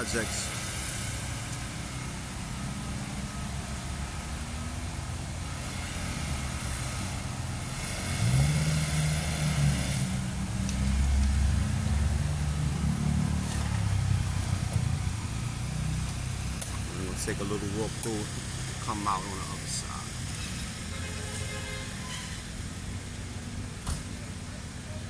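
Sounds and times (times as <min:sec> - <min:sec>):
vehicle engine accelerating: 0:00.0 - 0:20.8
street traffic rumble: 0:00.0 - 0:25.0.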